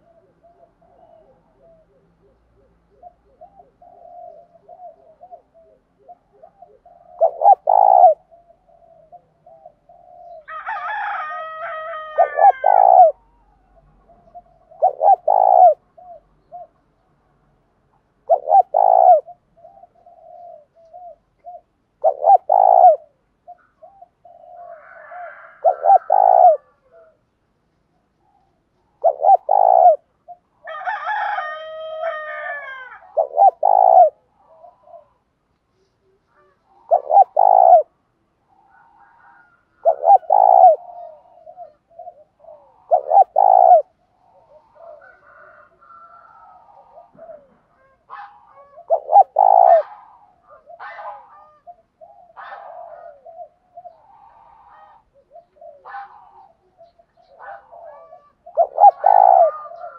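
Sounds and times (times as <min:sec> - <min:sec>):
dove cooing: 0:00.0 - 0:16.9, 0:18.2 - 0:27.4, 0:28.1 - 0:59.9.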